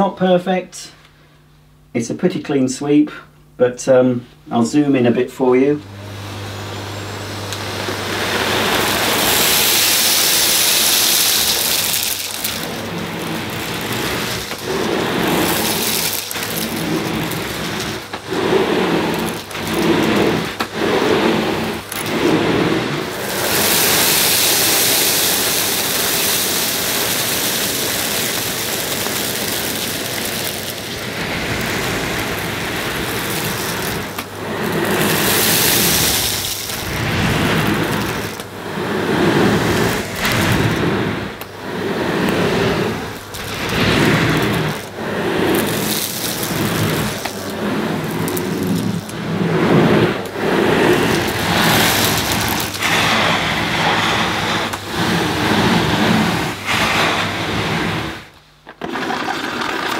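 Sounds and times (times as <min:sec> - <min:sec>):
vacuum cleaner on carpet: 0:04.5 - 0:59.9
debris sucked up vacuum pipe: 0:05.8 - 0:59.9.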